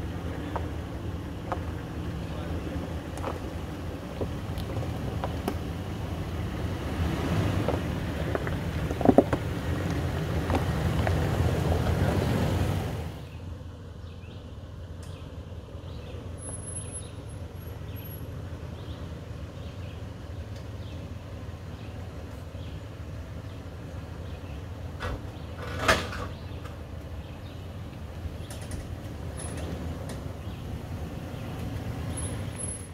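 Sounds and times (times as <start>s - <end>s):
engine running at low speed: 0.0s - 32.9s.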